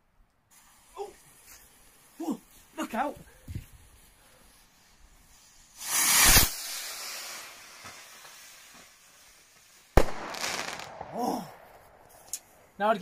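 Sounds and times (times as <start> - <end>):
firework rocket hissing: 0.5 - 2.8, 3.8 - 12.3.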